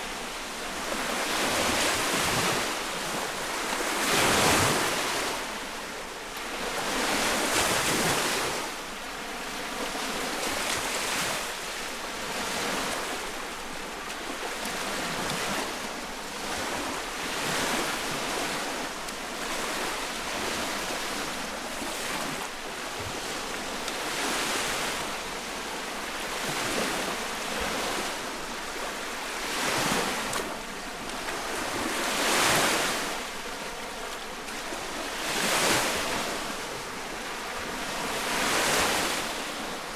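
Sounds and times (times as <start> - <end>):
waves washing on shore: 0.0 - 39.9.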